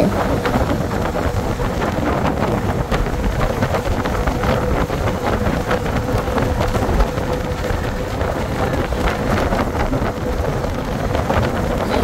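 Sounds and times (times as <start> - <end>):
vehicle road rumble: 0.0 - 12.0
wind buffeting microphone: 0.0 - 12.0.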